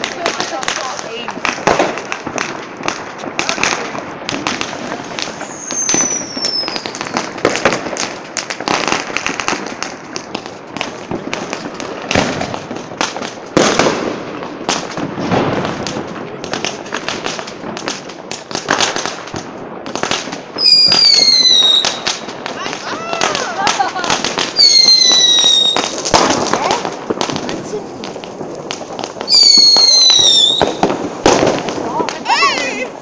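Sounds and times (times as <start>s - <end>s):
whistling firework: 0.0s - 16.0s, 18.6s - 33.0s
firecrackers banging and crackling: 0.0s - 33.0s.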